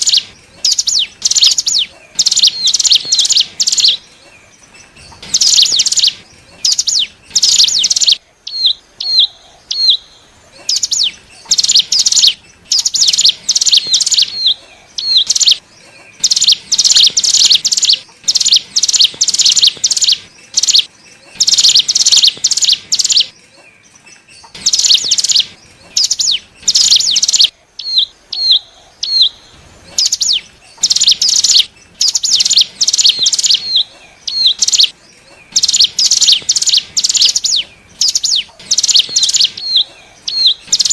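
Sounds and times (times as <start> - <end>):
bird song rapid high notes: 0.0 - 40.9.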